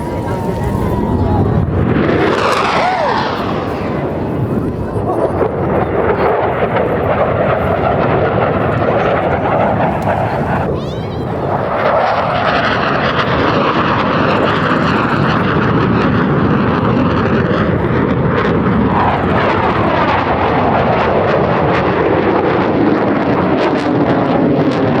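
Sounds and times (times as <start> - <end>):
jets in flight: 0.0 - 25.0.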